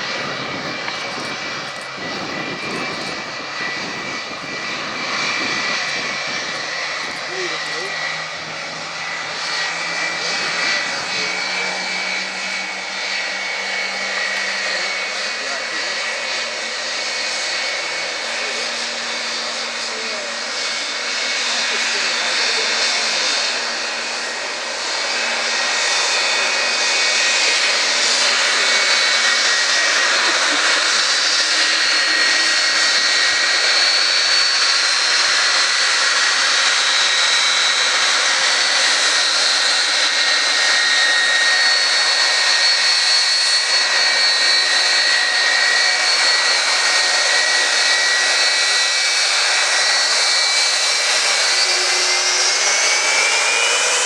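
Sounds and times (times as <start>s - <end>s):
high engine whine: 0.0s - 54.0s
jet engines roaring: 0.0s - 54.0s.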